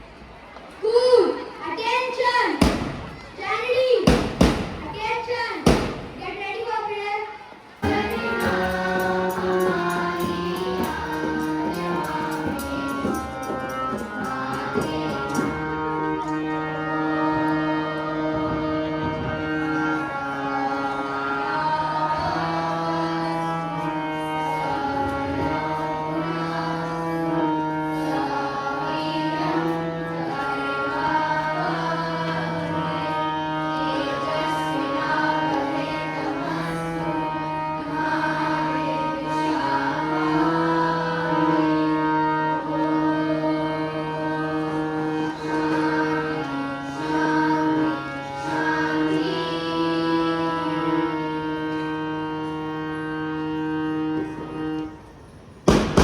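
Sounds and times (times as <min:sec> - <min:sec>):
indian classical music: 0:00.0 - 0:56.0.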